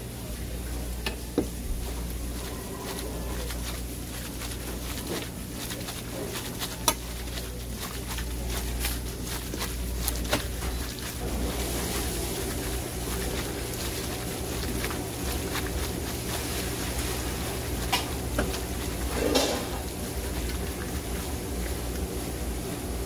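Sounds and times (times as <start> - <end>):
steady low hum: 0.0 - 23.0
wet rustling of noodles mixed: 0.0 - 23.0.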